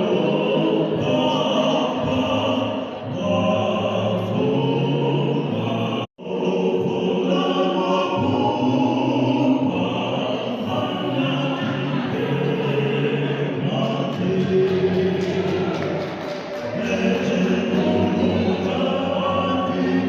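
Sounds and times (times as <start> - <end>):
vocal quartet singing in harmony: 0.0 - 20.0.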